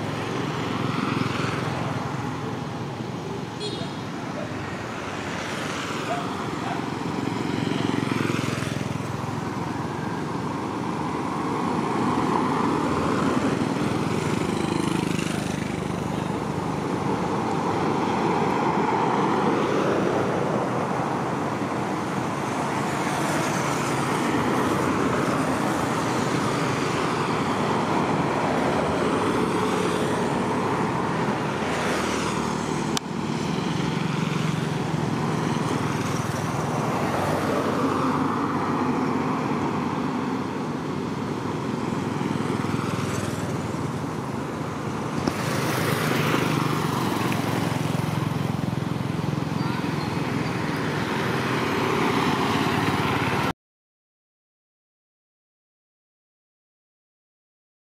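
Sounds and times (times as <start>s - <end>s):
vehicles passing: 0.0s - 53.5s
constant traffic hum: 0.0s - 53.6s.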